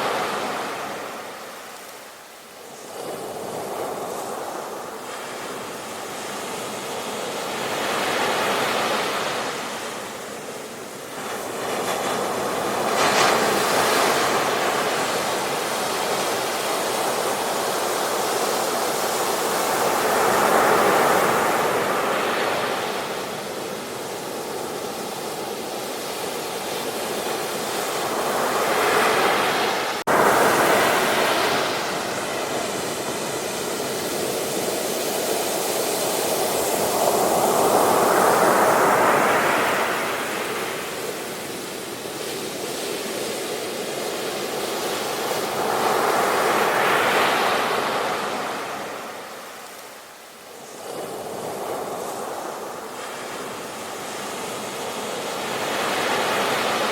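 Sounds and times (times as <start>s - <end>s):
ocean waves breaking: 0.0s - 2.0s, 2.7s - 56.9s.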